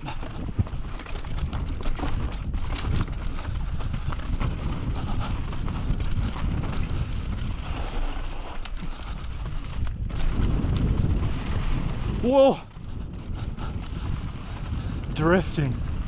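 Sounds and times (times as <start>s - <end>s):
mountain bike rattling on rocky trail: 0.0s - 16.0s
wind rumble on microphone: 0.0s - 16.0s.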